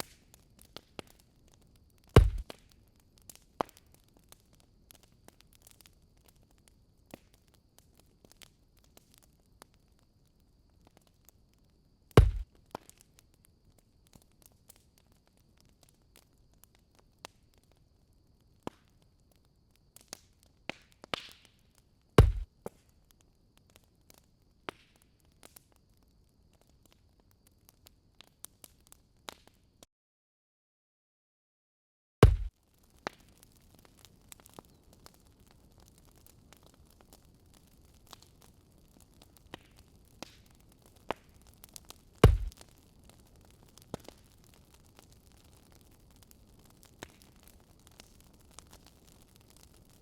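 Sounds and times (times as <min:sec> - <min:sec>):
wood fire crackling: 0:00.0 - 0:29.6, 0:32.2 - 0:50.0.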